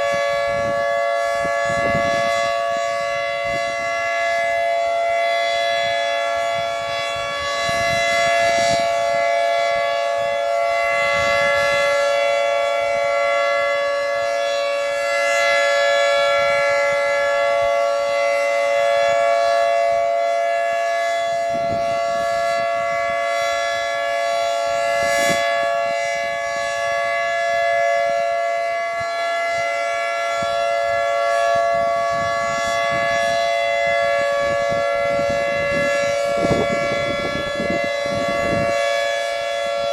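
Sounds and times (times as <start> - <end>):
distant siren: 0.0 - 39.9
dual-tone warning siren: 0.0 - 39.9.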